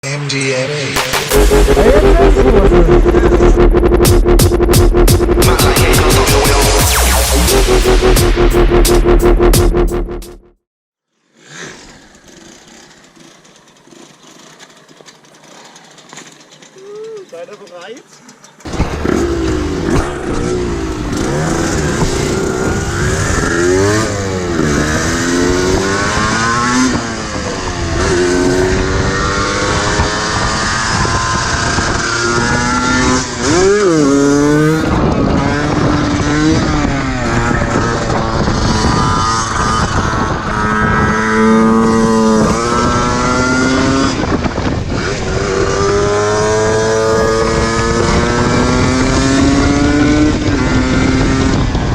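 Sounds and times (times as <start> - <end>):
two-stroke motorcycle engine revving: 0.1 - 10.6, 11.9 - 51.9.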